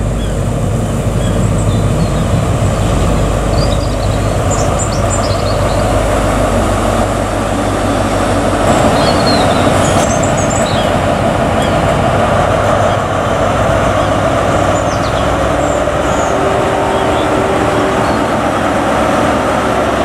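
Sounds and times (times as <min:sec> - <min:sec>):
diesel train engine running: 0:00.0 - 0:20.0.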